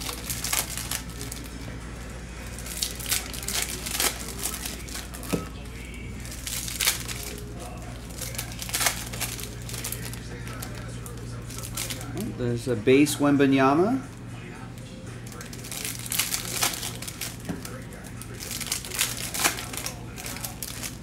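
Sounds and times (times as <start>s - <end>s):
foil wrappers crinkling and tearing: 0.0s - 1.8s, 2.4s - 12.2s, 15.2s - 21.0s.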